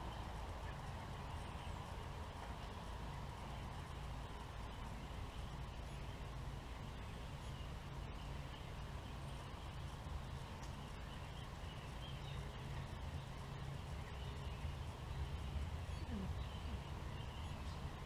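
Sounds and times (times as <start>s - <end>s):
birds calling faintly: 0.0s - 18.0s
steady low rumble: 0.0s - 18.0s.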